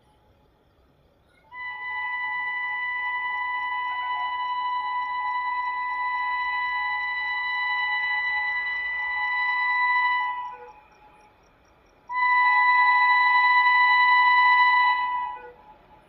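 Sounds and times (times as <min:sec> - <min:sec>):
locomotive air horn blasts: 0:01.5 - 0:11.3, 0:12.1 - 0:16.0.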